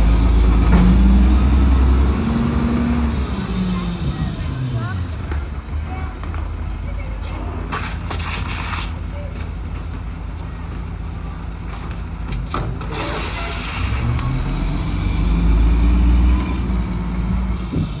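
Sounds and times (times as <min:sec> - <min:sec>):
diesel truck engine: 0:00.0 - 0:18.0.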